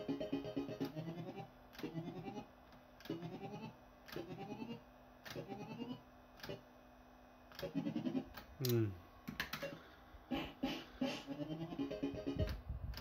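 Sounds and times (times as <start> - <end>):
fruit machine electronic warble: 0.0 - 2.5, 3.1 - 6.6, 7.6 - 9.0, 9.6 - 12.7.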